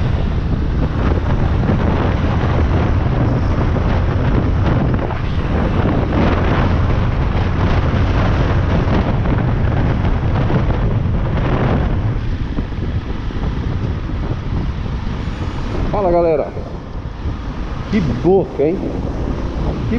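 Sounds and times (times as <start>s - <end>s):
motorcycle engine running: 0.0s - 19.9s
wind rushing over microphone: 0.0s - 19.9s.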